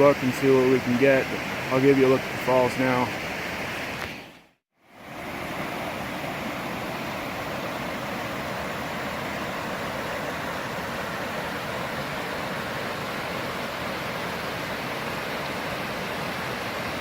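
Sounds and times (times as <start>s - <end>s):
waterfall rushing: 0.0s - 4.2s, 5.0s - 17.0s.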